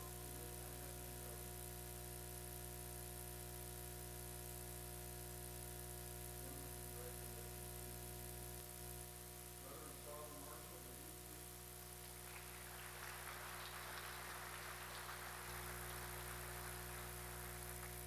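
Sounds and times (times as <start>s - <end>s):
electrical hum and buzz: 0.0s - 18.0s.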